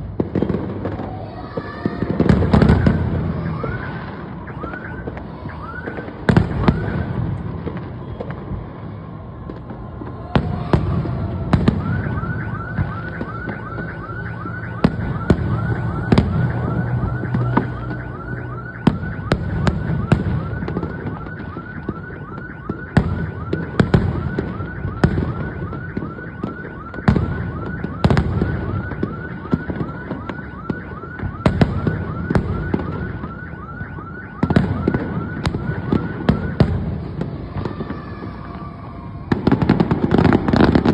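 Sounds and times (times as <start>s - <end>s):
fireworks bangs: 0.0s - 40.9s
car alarm whooping: 0.4s - 8.4s, 9.5s - 40.9s.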